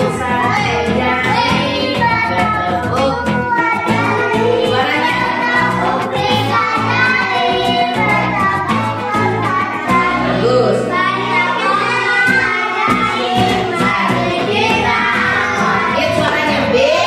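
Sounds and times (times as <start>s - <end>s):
children singing: 0.0s - 17.0s
instrumental backing music: 0.0s - 17.0s.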